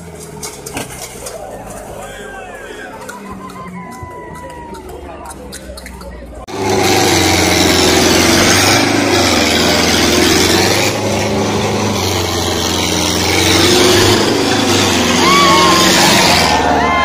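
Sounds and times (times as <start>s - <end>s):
tractor diesel engine labouring: 0.0s - 17.0s.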